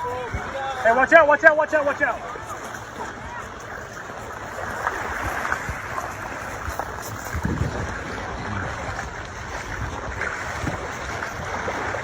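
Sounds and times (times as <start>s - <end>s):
waves washing: 0.0s - 12.0s
wind buffeting microphone: 0.0s - 12.0s.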